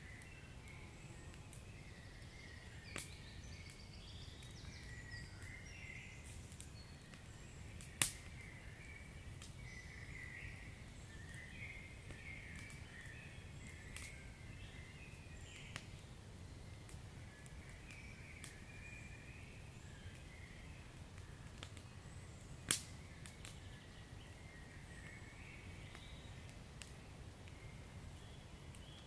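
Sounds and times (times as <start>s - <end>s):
wood fire crackling: 0.1s - 29.0s.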